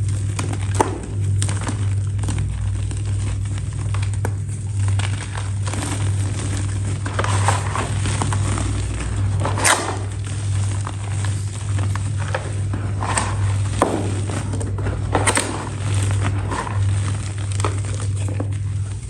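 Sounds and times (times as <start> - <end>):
crisp material crunching: 0.0 - 19.0
steady low hum: 0.0 - 19.0.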